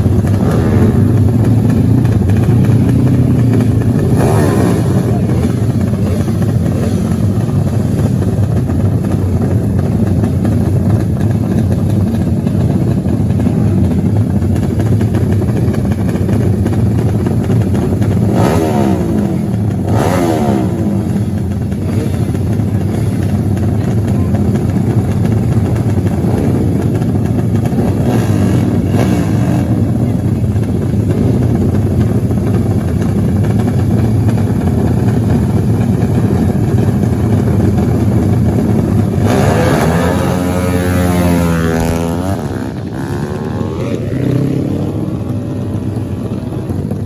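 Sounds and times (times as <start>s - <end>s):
dirt bike engines running: 0.0s - 47.0s
dirt bikes passing close: 0.0s - 47.0s.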